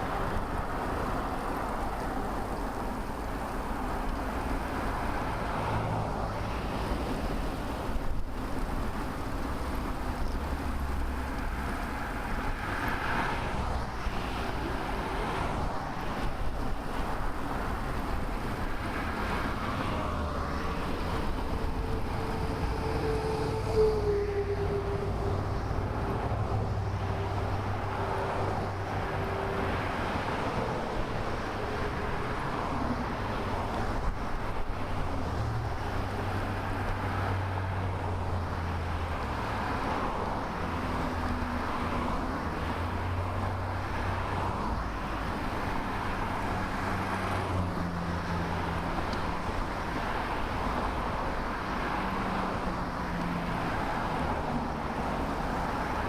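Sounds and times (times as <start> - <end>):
passing vehicle engine hums: 0.0 - 56.0
road traffic noise: 0.0 - 56.0.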